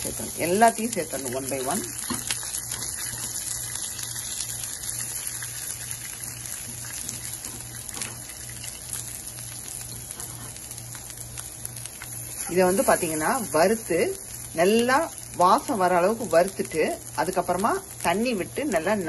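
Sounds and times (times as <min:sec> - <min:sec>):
hot oil sizzling in a frying pan: 0:00.0 - 0:19.0.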